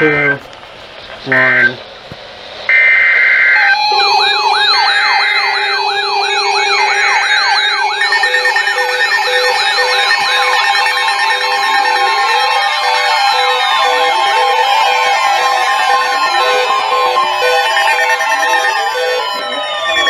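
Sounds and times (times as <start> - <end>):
harsh steady alert tone: 0.0 - 0.4, 1.2 - 1.8, 2.7 - 20.0
yelping siren: 0.0 - 0.4, 1.3 - 1.8, 2.7 - 20.0
high warbling tone: 1.2 - 1.8, 2.7 - 20.0.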